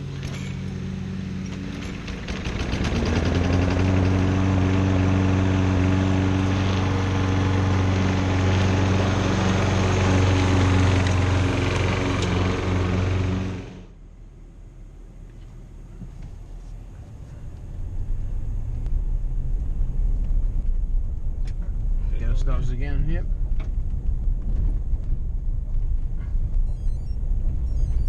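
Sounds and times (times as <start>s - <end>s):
engine running: 0.0s - 28.0s.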